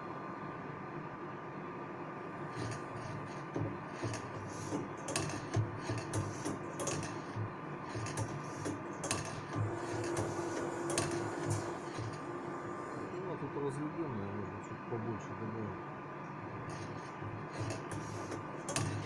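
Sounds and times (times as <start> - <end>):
machine motor hum: 2.2 - 19.0.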